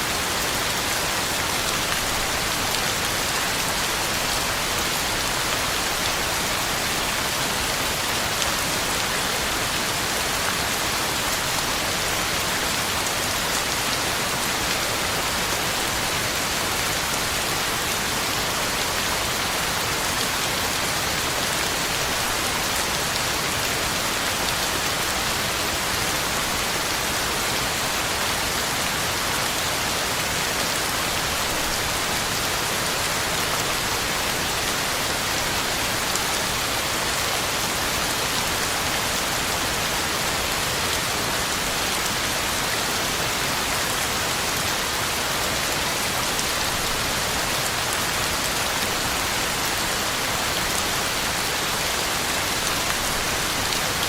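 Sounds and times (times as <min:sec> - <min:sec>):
heavy rain on ground and leaves: 0:00.0 - 0:54.0.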